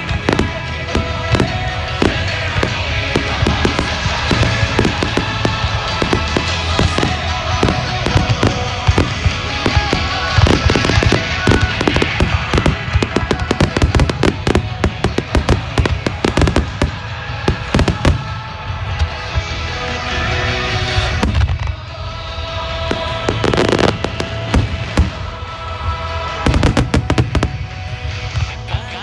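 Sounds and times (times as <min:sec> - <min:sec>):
fireworks bursting: 0:00.0 - 0:28.7
music playing: 0:00.0 - 0:29.0.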